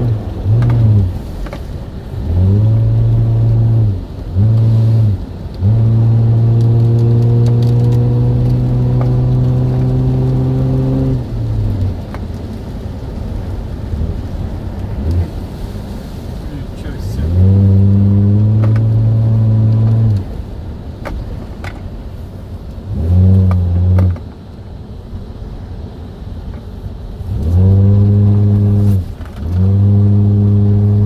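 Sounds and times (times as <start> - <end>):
car engine revving: 0.0 - 24.5, 25.3 - 31.0
low drive rumble: 0.0 - 31.0.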